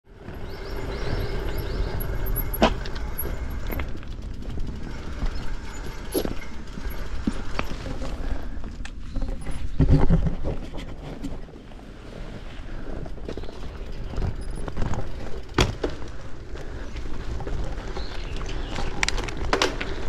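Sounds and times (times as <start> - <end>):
bike knocks and rattles: 0.1 - 11.6, 12.8 - 20.0
tyre rumble: 0.1 - 20.0.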